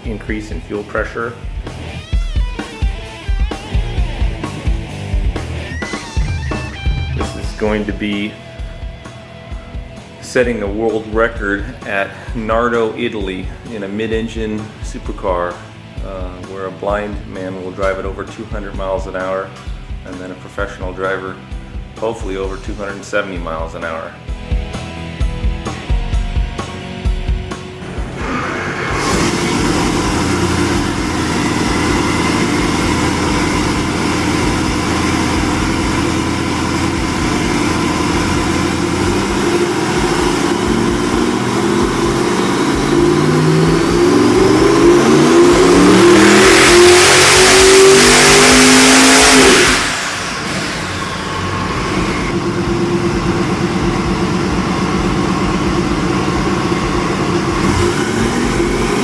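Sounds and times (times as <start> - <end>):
turbocharged engine revving: 0.0 - 19.4, 24.3 - 59.0.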